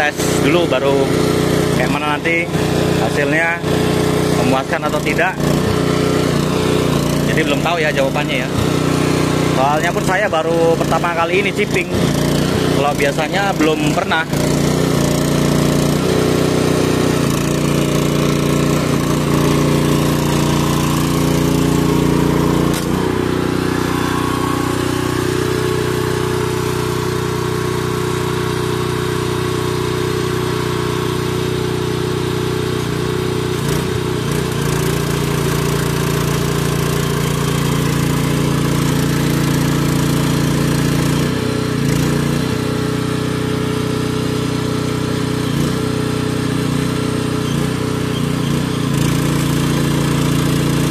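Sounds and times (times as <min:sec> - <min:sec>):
engine running loudly: 0:00.0 - 0:50.9.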